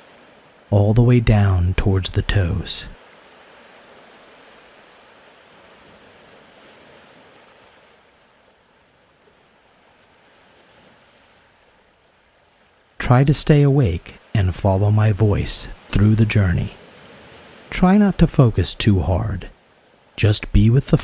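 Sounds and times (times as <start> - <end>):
faint ocean surf: 0.0 - 21.0.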